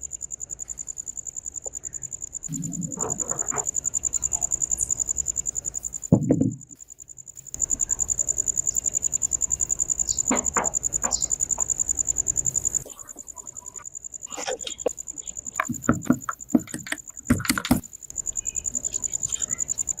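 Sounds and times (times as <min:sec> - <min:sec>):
insect chirping trill: 0:00.0 - 0:20.0.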